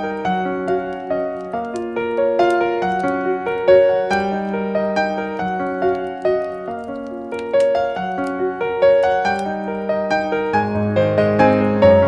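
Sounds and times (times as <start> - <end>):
solo piano melody: 0.0 - 12.0.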